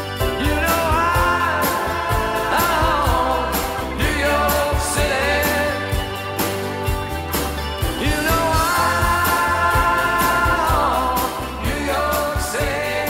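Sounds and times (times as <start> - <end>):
person singing: 0.0 - 6.6, 7.9 - 13.0
drum beat and bass: 0.0 - 13.0.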